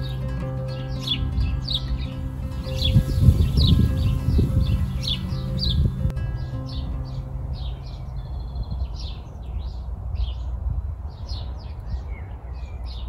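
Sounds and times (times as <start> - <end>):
steady low rumble: 0.0 - 12.8
small songbirds chirping: 0.0 - 13.0.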